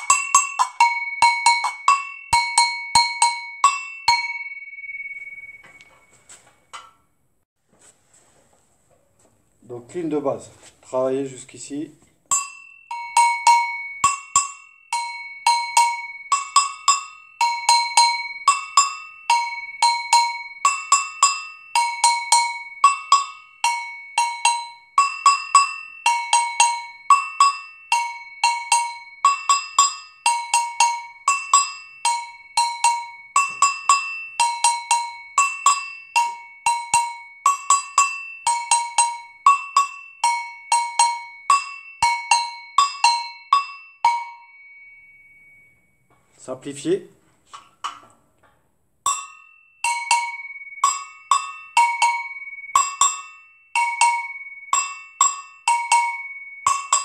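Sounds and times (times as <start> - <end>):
agogo bells struck with stick: 0.0 - 6.1, 12.3 - 45.8, 49.1 - 57.0.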